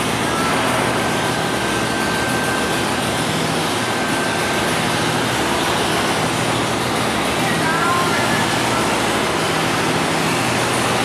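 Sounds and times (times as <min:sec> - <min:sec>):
thin high whine: 0:00.0 - 0:11.0
train rumbling on elevated track: 0:00.0 - 0:11.0.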